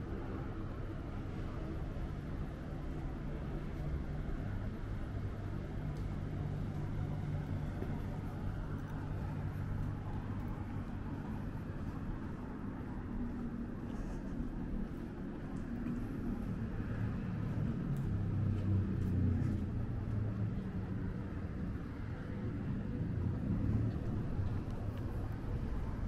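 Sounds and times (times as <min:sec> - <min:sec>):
low rumble of traffic: 0:00.0 - 0:26.0.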